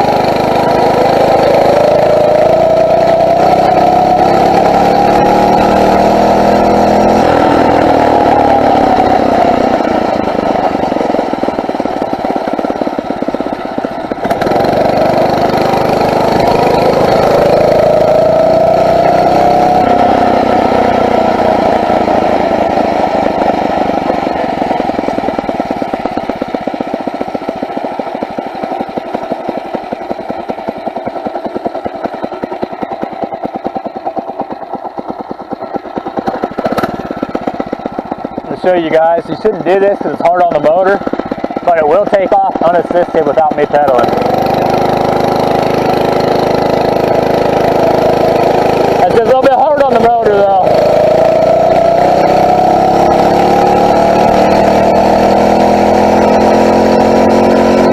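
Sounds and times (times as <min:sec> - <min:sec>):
motorized bicycle engine running: 0:00.0 - 0:57.9.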